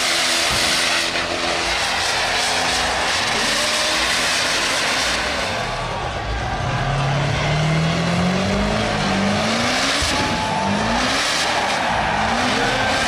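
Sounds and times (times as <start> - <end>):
diesel engine revving high: 0.0 - 13.0.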